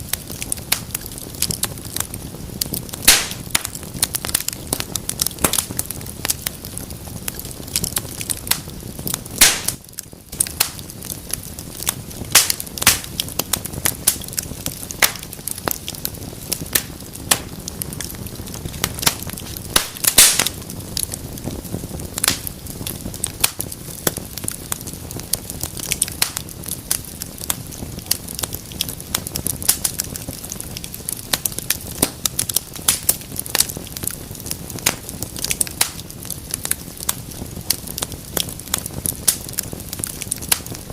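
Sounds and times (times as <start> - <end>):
low rush of burning: 0.0 - 40.9
wood fire pops and snaps: 0.0 - 40.9.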